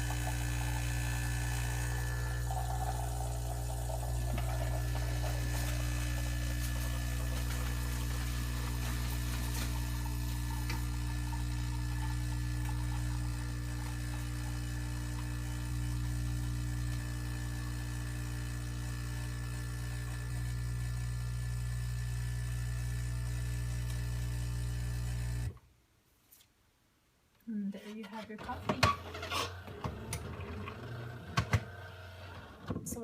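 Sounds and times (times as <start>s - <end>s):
espresso machine pump humming: 0.0s - 25.6s, 29.4s - 32.8s.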